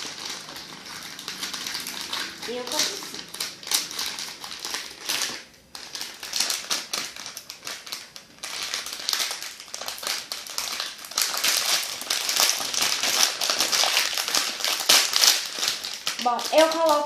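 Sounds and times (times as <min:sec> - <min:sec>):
plastic packet crinkling: 0:00.0 - 0:17.0.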